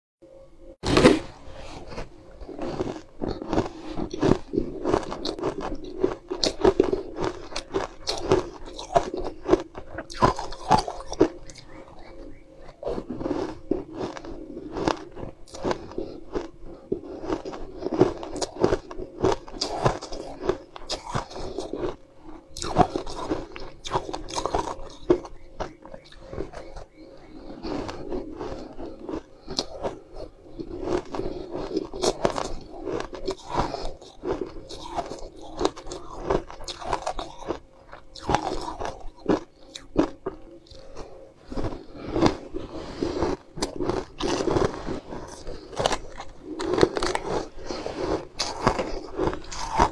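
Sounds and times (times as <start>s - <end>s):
chewing cake close up: 1.8s - 49.9s.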